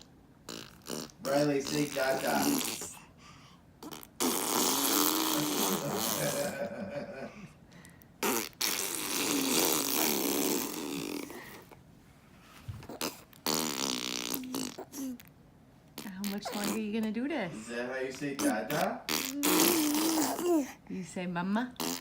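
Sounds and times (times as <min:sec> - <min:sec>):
baby blowing raspberries: 0:00.0 - 0:06.7, 0:08.2 - 0:11.8, 0:12.7 - 0:15.3, 0:16.0 - 0:20.8, 0:21.8 - 0:22.0.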